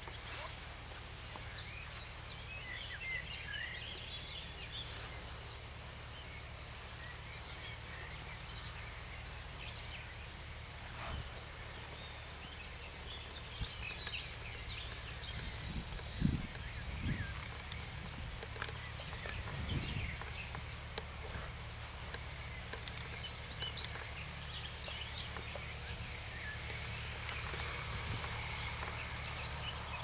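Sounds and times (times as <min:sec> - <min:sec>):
distant tractor engine rumble: 0:00.0 - 0:30.0
small birds warbling: 0:00.0 - 0:30.0.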